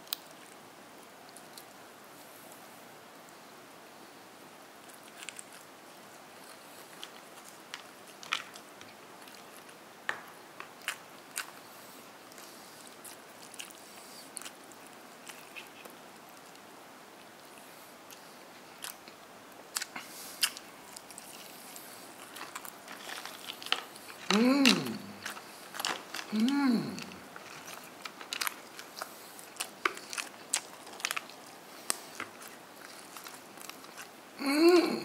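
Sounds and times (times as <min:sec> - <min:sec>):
faint steady hiss: 0:00.0 - 0:35.0
crunchy food chewing: 0:04.8 - 0:34.4.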